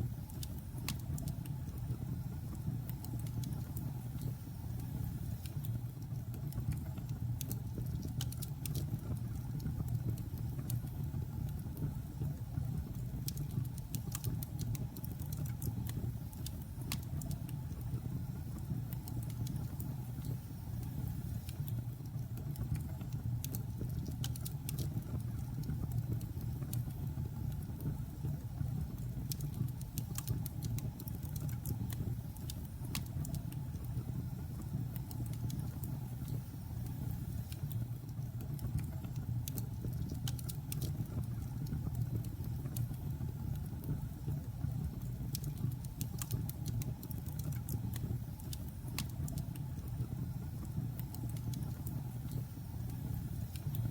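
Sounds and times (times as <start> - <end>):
logs crackling and popping in fire: 0.3 - 53.9.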